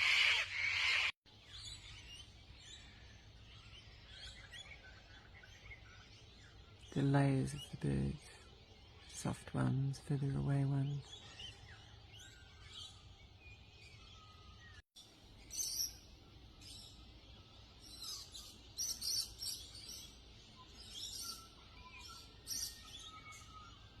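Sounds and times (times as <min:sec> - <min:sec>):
distant birds whistling: 0:00.0 - 0:09.3, 0:10.9 - 0:24.0
birds chirping and twittering: 0:00.0 - 0:24.0.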